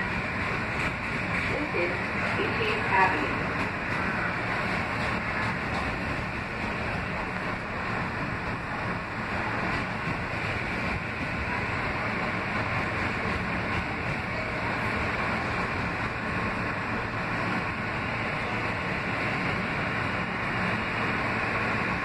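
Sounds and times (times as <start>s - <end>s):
subway train wheels rumbling on rails: 0.0s - 22.0s.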